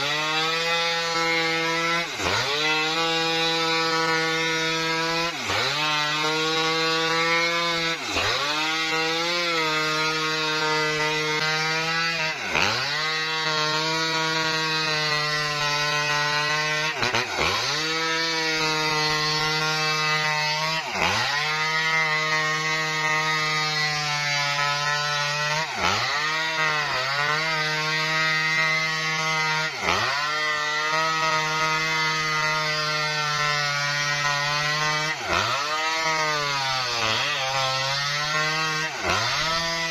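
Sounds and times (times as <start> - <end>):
chainsaw cutting wood at high revs: 0.0 - 39.9.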